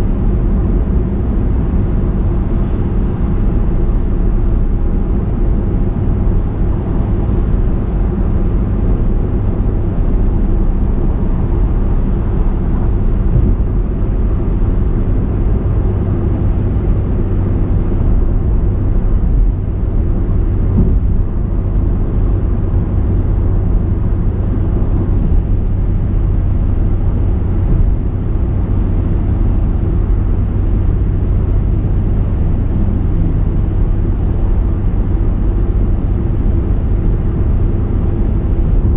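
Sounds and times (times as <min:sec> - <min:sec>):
car driving: 0:00.0 - 0:38.9.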